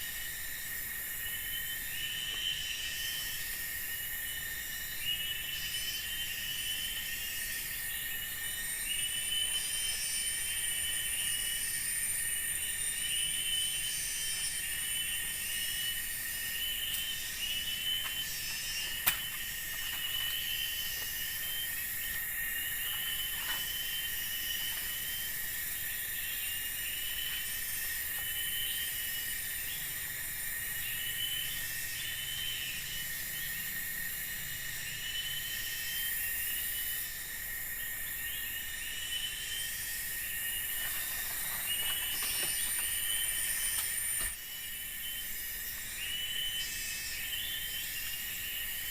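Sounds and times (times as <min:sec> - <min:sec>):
insects buzzing drone: 0:00.0 - 0:48.9
short insect chirp: 0:00.0 - 0:48.9.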